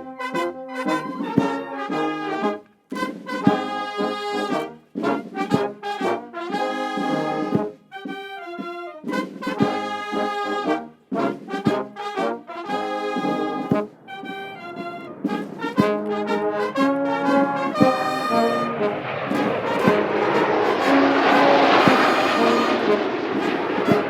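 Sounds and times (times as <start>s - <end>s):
brass-led orchestral music: 0.0s - 24.0s.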